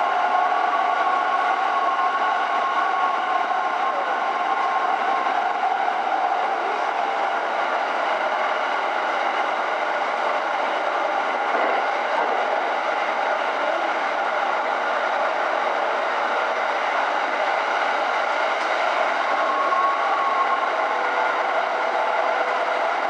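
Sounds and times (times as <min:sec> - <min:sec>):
electric train rolling rumble: 0:00.0 - 0:23.0.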